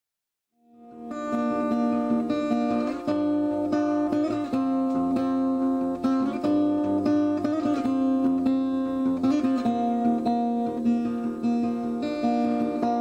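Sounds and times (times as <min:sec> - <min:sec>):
acoustic guitar music: 0:00.6 - 0:13.0.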